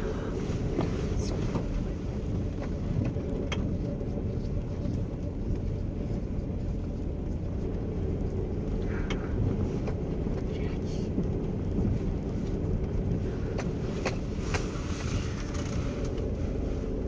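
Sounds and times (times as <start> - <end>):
car tyres and engine rumbling: 0.0 - 17.0.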